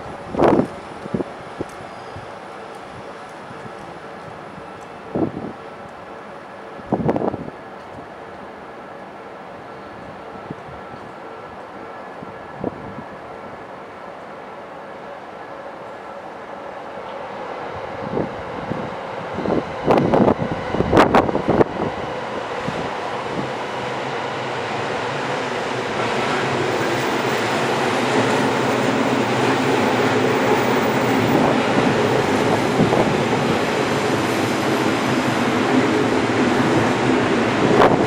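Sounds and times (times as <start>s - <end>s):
train running noise: 0.0s - 38.0s.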